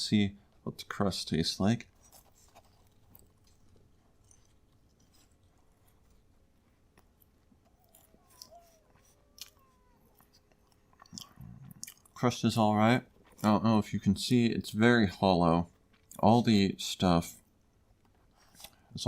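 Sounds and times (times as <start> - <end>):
faint chewing: 1.8 - 14.1, 14.9 - 16.3, 17.4 - 19.0.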